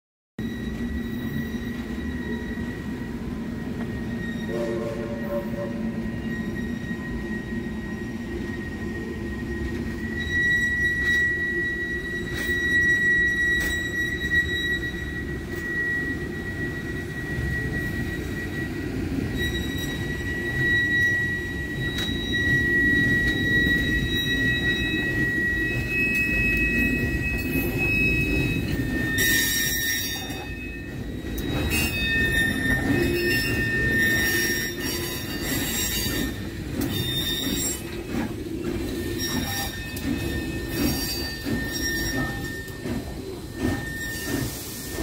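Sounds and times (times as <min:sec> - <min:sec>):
low train rumble: 0:00.4 - 0:45.0
train wheels squealing: 0:00.4 - 0:45.0.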